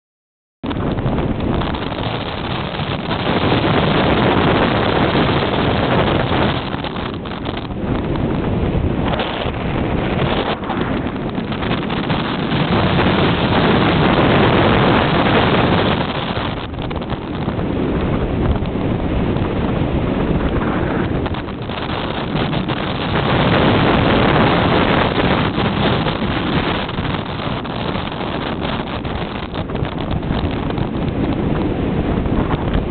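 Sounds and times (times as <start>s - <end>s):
strong wind buffeting microphone: 0.6s - 32.9s
waves breaking: 0.6s - 32.9s.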